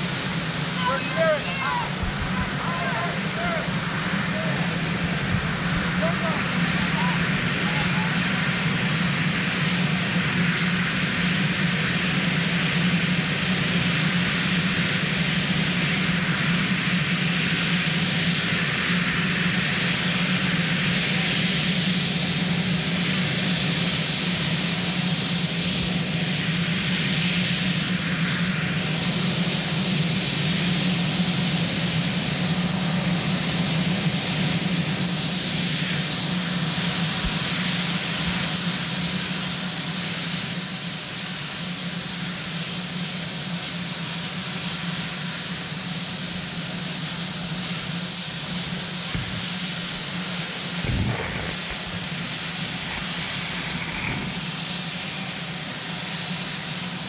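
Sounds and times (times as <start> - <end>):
helicopter turbine engines running: 0.0 - 57.0.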